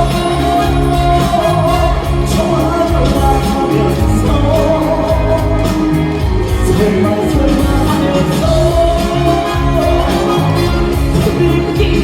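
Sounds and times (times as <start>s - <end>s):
person singing: 0.0s - 12.0s
song backing music over loudspeakers: 0.0s - 12.0s.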